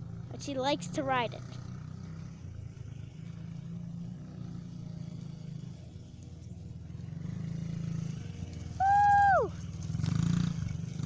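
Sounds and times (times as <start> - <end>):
small engine droning: 0.0 - 11.0.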